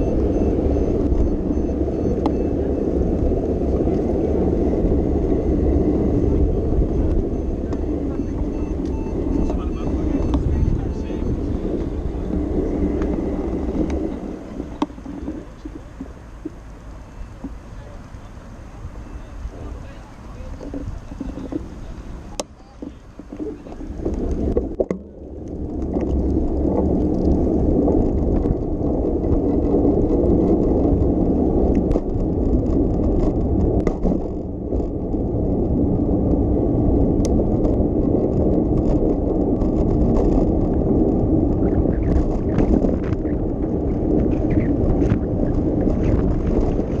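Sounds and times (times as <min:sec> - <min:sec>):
bicycle tyre and road noise: 0:00.0 - 0:47.0
wind on microphone: 0:00.0 - 0:47.0.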